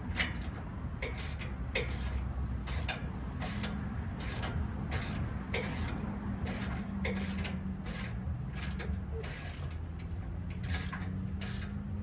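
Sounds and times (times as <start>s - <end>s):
ratchet wrench clicking: 0.0s - 11.9s.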